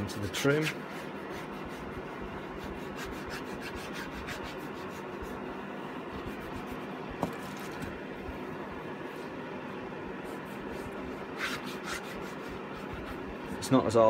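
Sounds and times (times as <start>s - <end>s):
foam pad rubbing plastic: 0.0s - 8.0s, 10.1s - 13.8s
fan heater hum: 0.0s - 14.0s.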